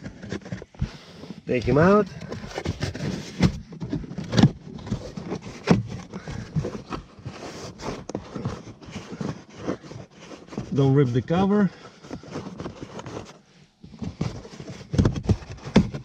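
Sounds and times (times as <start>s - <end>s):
foam scraping and rustling: 0.0s - 16.0s.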